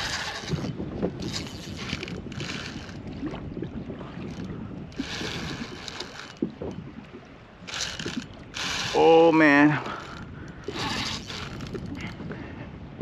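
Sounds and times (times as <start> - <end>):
water around a kayak: 0.0 - 13.0
wind: 0.0 - 13.0.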